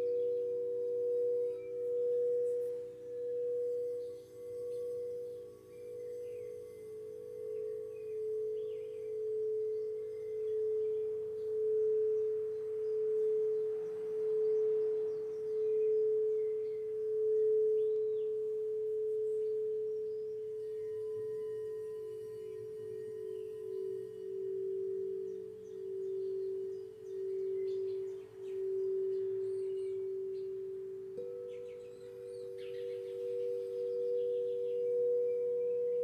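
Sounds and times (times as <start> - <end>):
faint bird chirps: 0.0 - 36.0
singing bowl ringing: 0.0 - 36.0.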